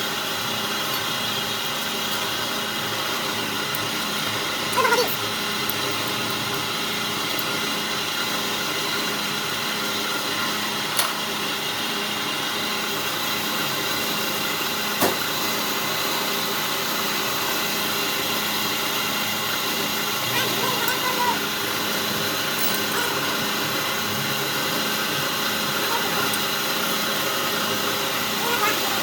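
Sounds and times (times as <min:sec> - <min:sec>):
machine hum and hiss: 0:00.0 - 0:29.0.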